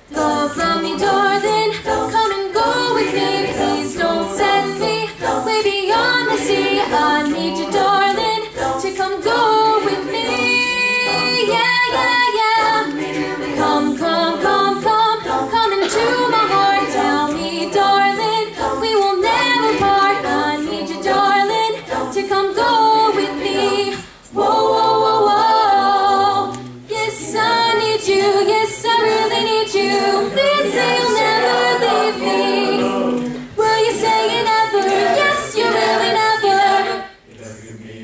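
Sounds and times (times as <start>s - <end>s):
a cappella group singing: 0.0s - 38.0s.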